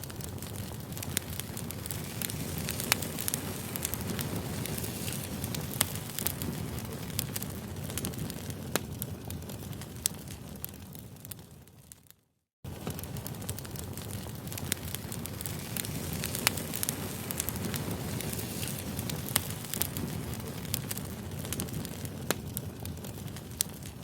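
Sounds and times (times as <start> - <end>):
campfire crackling: 0.0 - 12.0, 12.7 - 24.0
fire popping: 0.0 - 24.0.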